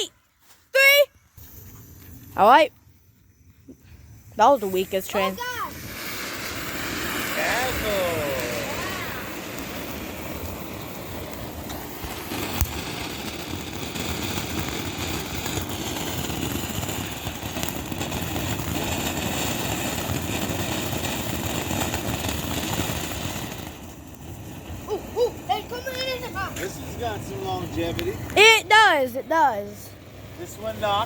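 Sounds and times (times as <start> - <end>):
firework hissing sparks: 4.0 - 31.0
firework crack: 4.4 - 31.0.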